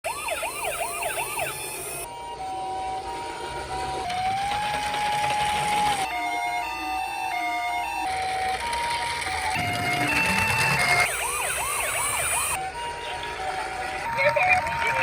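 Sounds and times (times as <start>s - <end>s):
electronic toy siren: 0.0s - 15.0s.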